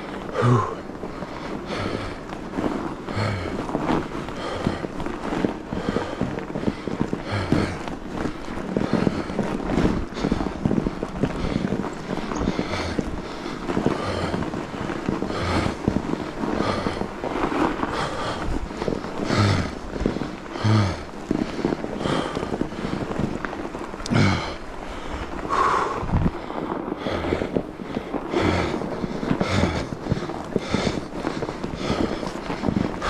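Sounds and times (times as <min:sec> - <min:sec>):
bike tyres rolling on snow: 0:00.0 - 0:33.0
person breathing hard: 0:00.0 - 0:33.0.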